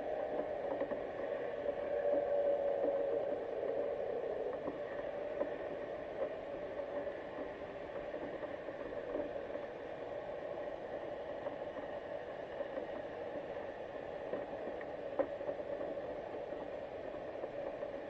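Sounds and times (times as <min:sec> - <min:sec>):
muffled underwater noise: 0:00.0 - 0:18.0
faint clicks: 0:00.2 - 0:18.0.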